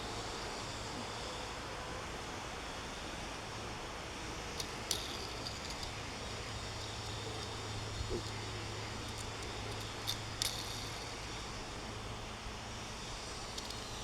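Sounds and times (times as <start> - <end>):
background hiss and hum: 0.0 - 14.0.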